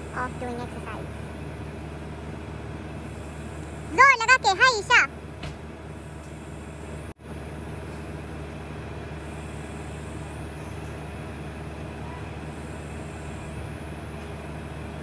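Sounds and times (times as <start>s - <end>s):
steady low hum with hiss: 0.0s - 15.0s.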